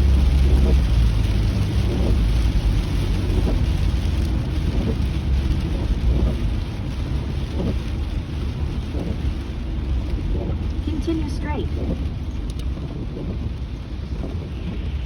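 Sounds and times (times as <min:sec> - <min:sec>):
rain on a moving car: 0:00.0 - 0:15.0
road and engine rumble: 0:00.0 - 0:15.0.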